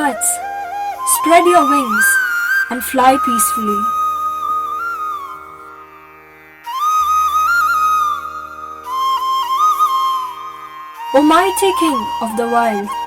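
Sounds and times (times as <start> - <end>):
flute playing slow melody: 0.0 - 6.0, 6.6 - 13.0.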